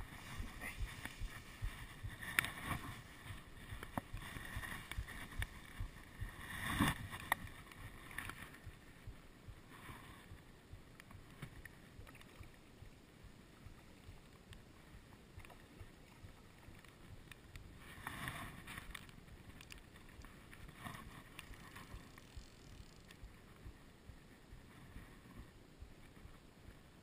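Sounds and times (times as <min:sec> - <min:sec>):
wind on microphone: 0:00.0 - 0:27.0.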